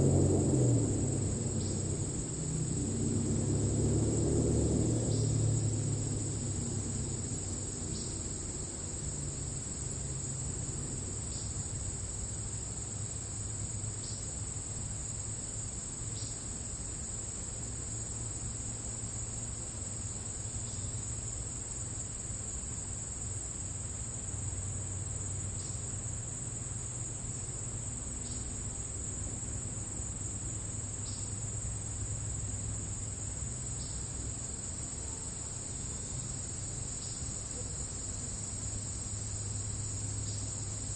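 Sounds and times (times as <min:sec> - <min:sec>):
crickets trilling: 0:00.0 - 0:40.9
low steady rumble: 0:00.0 - 0:40.9.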